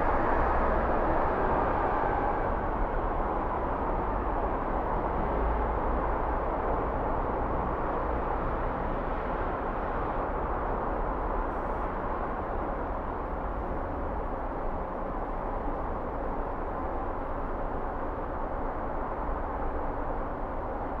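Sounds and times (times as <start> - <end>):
city traffic hum: 0.0 - 21.0.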